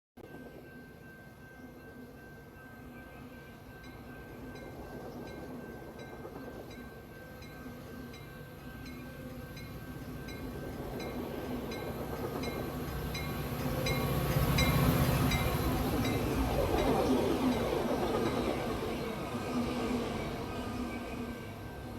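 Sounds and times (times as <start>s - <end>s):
train rumble: 0.2s - 21.9s.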